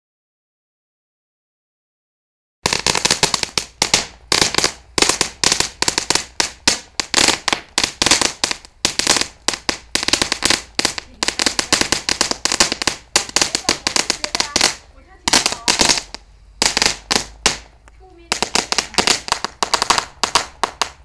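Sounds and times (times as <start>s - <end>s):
firework crackling: 2.6s - 21.0s.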